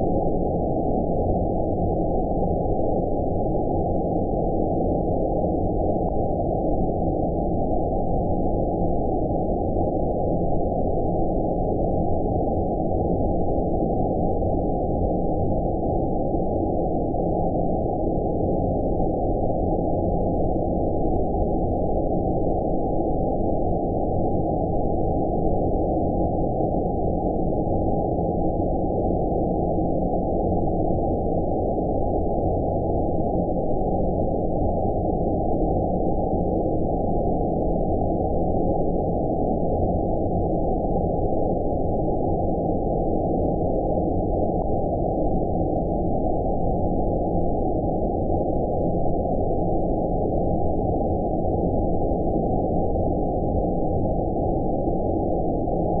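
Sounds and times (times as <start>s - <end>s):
low filtered white noise rumble: 0.0s - 56.0s.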